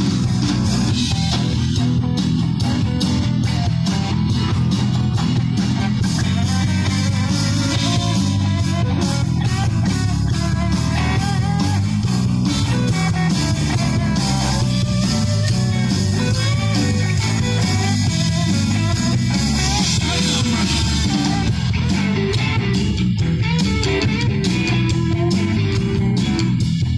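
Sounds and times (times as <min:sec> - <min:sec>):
blues-rock band playing: 0:00.0 - 0:26.9
guitar lead with bending notes: 0:00.0 - 0:26.9.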